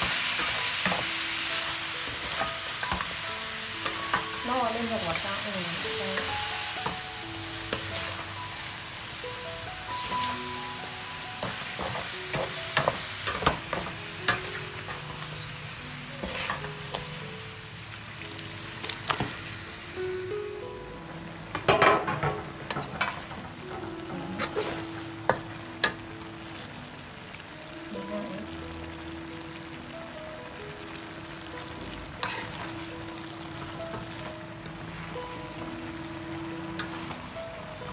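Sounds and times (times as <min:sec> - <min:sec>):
meat sizzling in a pan: 0:00.0 - 0:37.9.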